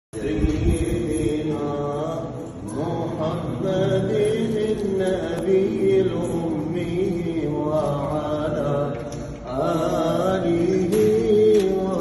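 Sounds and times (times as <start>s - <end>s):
voices chanting: 1.0s - 12.0s.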